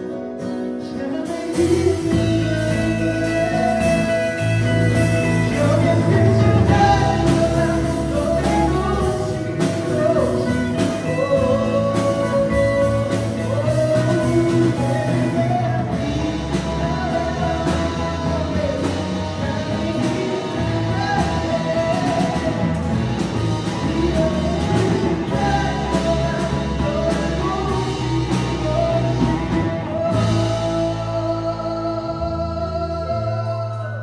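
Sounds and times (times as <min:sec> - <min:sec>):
rock band playing pop song: 0:00.0 - 0:34.0.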